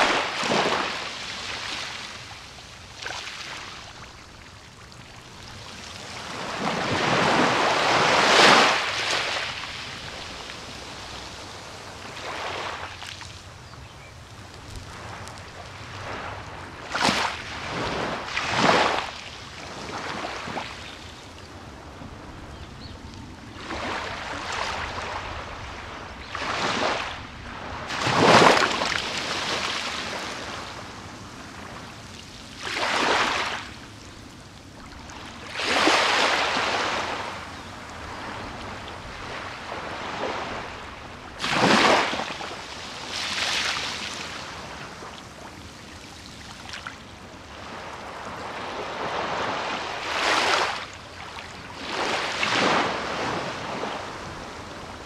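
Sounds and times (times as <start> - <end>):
small waves washing up beach: 0.0 - 55.0
surf hiss: 0.0 - 55.0.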